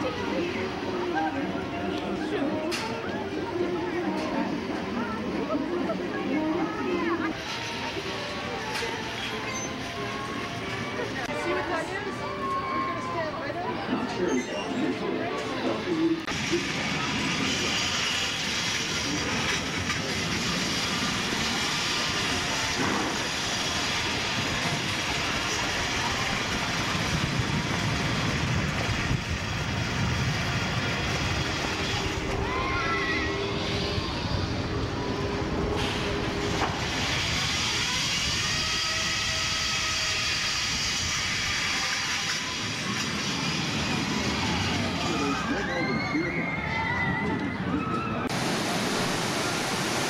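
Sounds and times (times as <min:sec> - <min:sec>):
ride machinery: 0:00.0 - 0:50.0.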